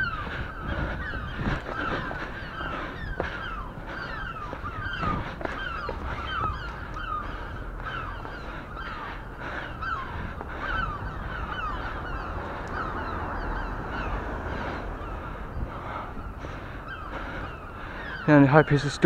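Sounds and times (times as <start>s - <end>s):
wind rumbling on microphone: 0.0s - 18.3s
gulls squawking: 0.0s - 19.0s.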